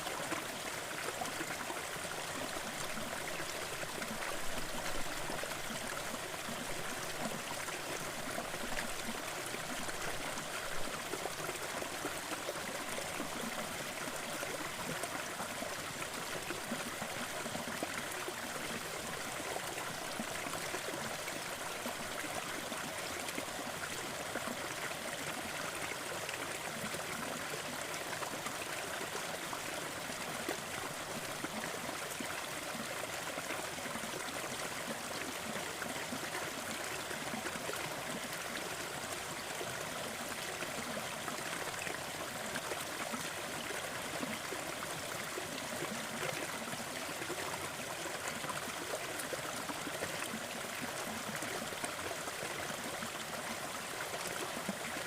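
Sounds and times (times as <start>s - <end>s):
waterfall and stream splashing: 0.0s - 55.0s.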